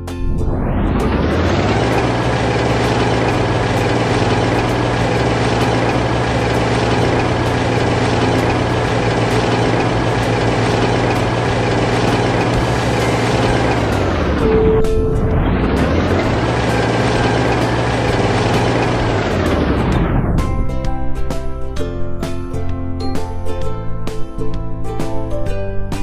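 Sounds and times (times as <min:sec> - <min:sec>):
heavy engine running: 0:00.0 - 0:26.0.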